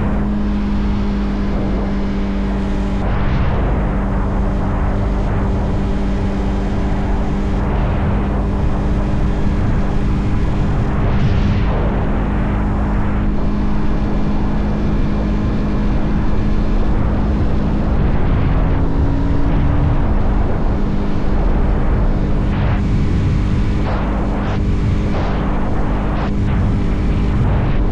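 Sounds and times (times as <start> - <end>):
motorcycle engine running: 0.0 - 27.9
wind and road rush: 0.0 - 27.9.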